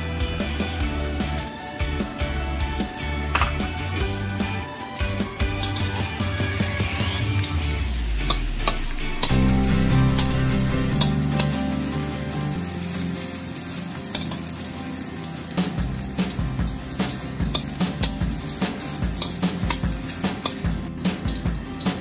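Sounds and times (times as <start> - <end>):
garlic sizzling in hot oil: 3.0 - 22.0.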